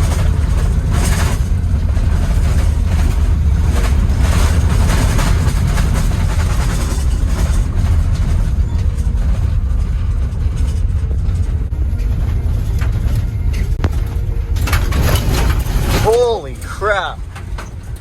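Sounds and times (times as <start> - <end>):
van engine and road noise: 0.0 - 18.0.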